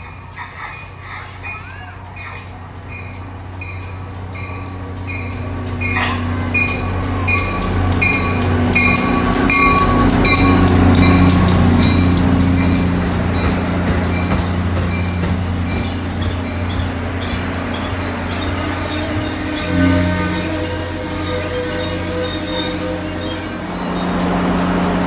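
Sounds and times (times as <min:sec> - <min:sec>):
diesel locomotive engine drone: 0:00.0 - 0:25.0
train wheel and rail noise: 0:00.0 - 0:25.0
locomotive bell ringing: 0:02.4 - 0:25.0.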